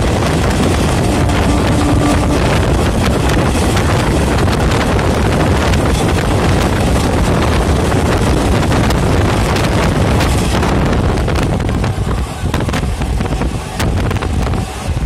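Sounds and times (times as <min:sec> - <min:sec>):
passing train alongside: 0:00.0 - 0:15.0
train wheels rumbling on rails: 0:00.0 - 0:15.0
wind rushing over microphone: 0:00.0 - 0:15.0.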